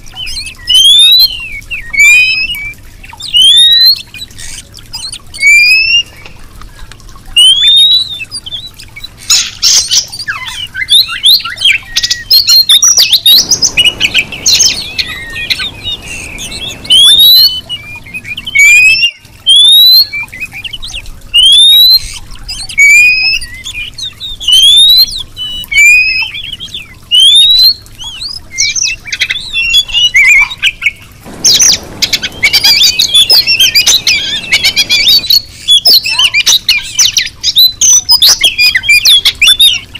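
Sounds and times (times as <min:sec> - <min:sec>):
fast chattering birdsong: 0:00.0 - 0:39.9
bird whistling: 0:00.2 - 0:06.2, 0:07.4 - 0:39.9.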